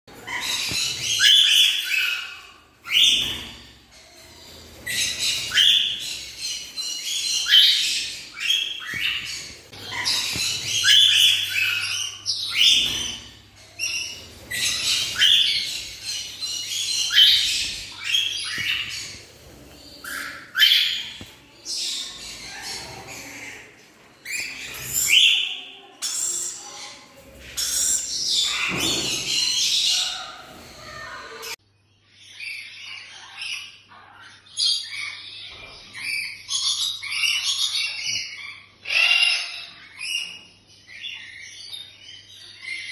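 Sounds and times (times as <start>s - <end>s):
parrot squawking and chirping: 0.1s - 31.6s, 32.3s - 41.6s.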